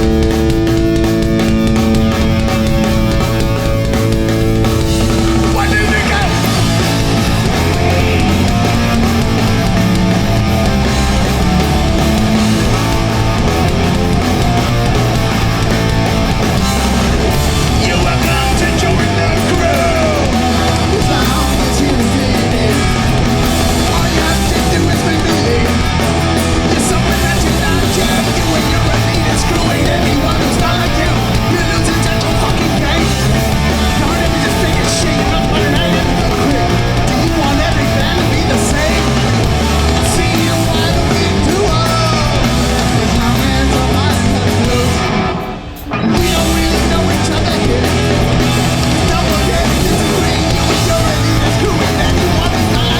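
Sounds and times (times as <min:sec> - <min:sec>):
punk band playing loud: 0:00.0 - 0:52.9.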